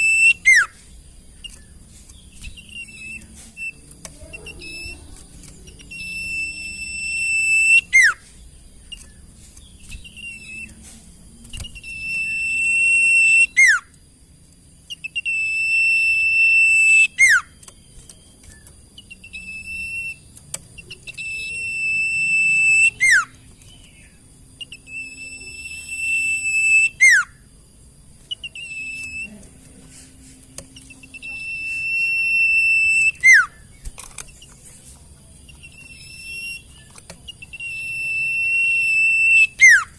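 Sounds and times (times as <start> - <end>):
bird whistling song: 0.0 - 14.0, 14.8 - 29.4, 30.5 - 34.6, 35.4 - 39.9.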